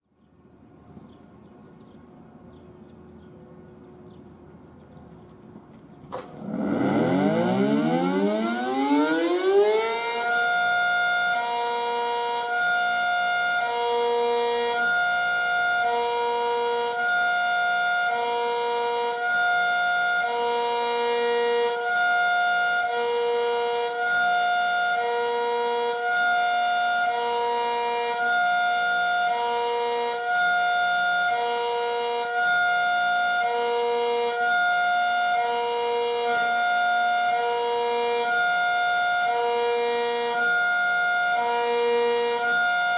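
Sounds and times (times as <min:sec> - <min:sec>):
electronic warning siren: 0:06.2 - 0:42.9.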